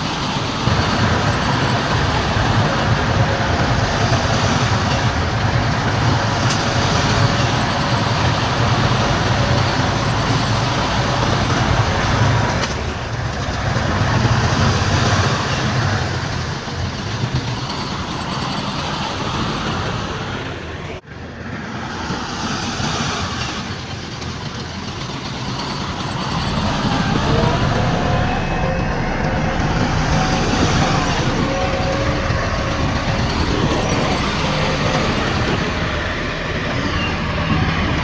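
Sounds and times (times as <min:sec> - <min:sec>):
heavy diesel engine droning: 0:00.0 - 0:38.0.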